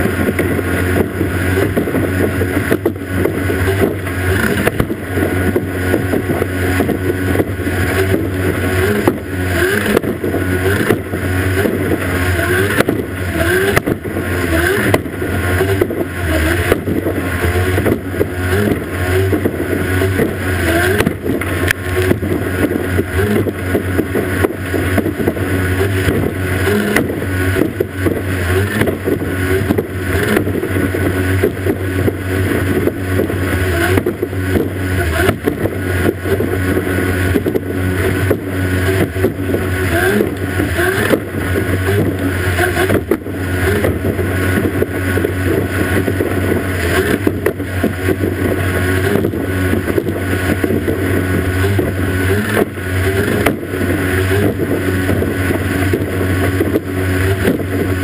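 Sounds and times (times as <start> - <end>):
hull knocking on waves: 0.0 - 58.0
outboard motor droning: 0.0 - 58.0
water rushing and spray: 0.0 - 58.0.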